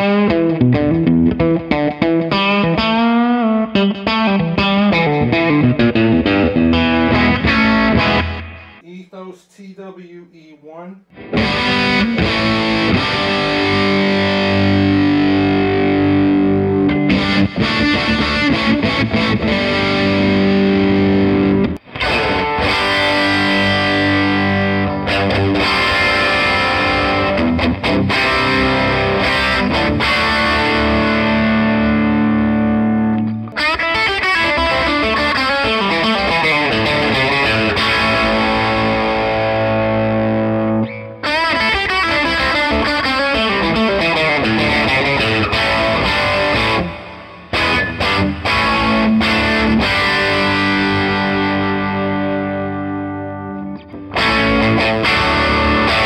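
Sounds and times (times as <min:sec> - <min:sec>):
distorted electric guitar: 0:00.0 - 0:08.9, 0:11.1 - 0:56.0.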